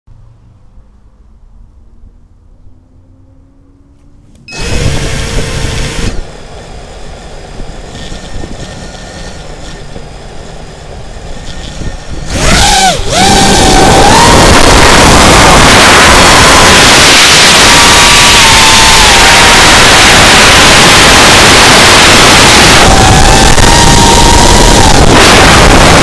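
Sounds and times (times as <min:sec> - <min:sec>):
drone motors whining: 0:03.2 - 0:26.0
wind rush: 0:04.5 - 0:26.0.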